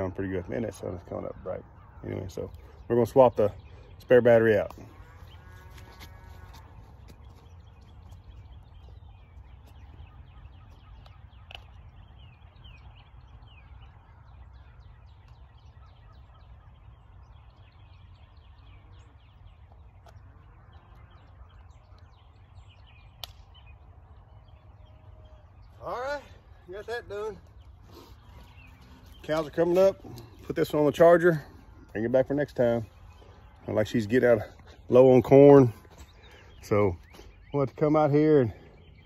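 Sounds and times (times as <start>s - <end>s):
wild birds calling: 0.0s - 39.0s.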